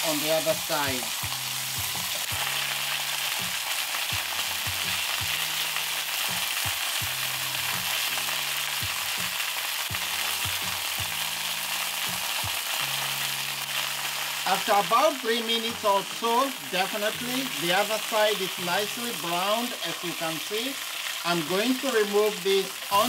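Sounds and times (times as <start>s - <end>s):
meat sizzling in oil: 0.0s - 23.0s.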